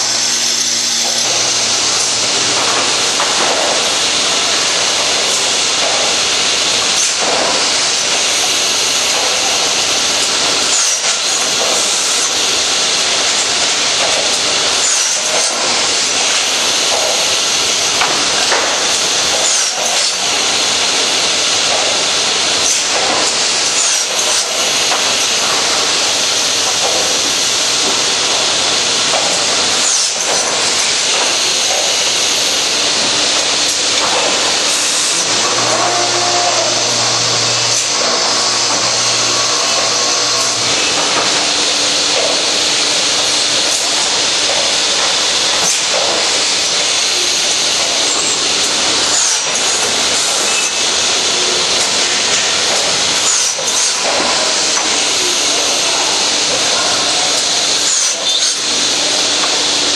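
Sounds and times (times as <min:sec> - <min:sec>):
machine knocking and clattering: 0:00.0 - 0:59.9
machinery hissing: 0:00.0 - 0:59.9.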